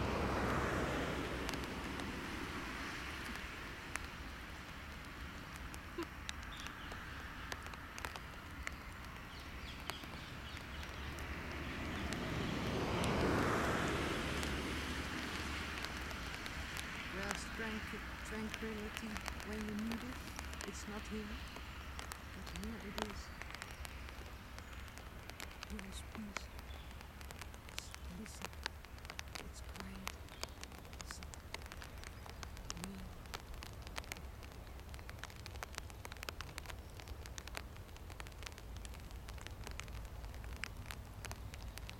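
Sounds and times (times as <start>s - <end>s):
car passing: 0.0s - 36.7s
light irregular crackles: 0.0s - 41.9s.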